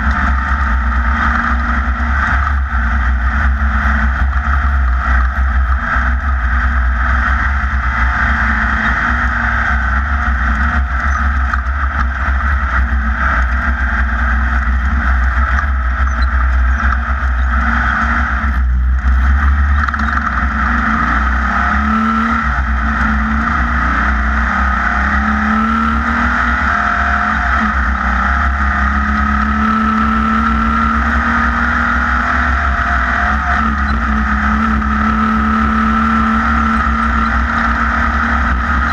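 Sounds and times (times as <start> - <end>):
heavy low rumble: 0.0 - 31.3
engine running under load: 0.0 - 38.9.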